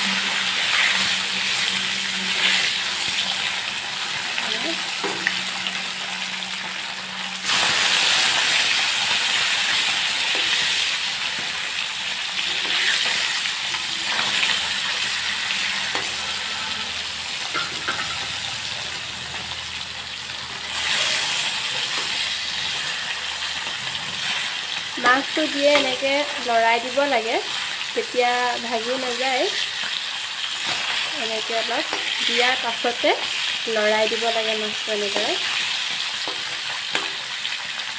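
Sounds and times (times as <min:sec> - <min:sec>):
fish sizzling in hot oil: 0:00.0 - 0:37.9.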